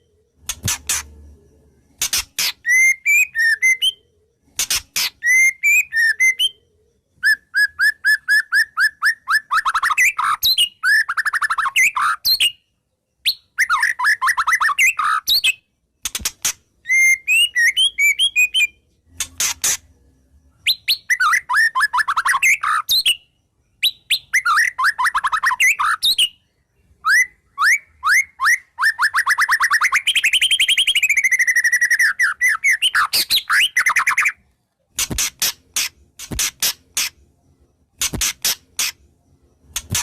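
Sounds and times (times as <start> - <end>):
bird singing whistled notes: 0.0 - 15.8, 16.8 - 34.5.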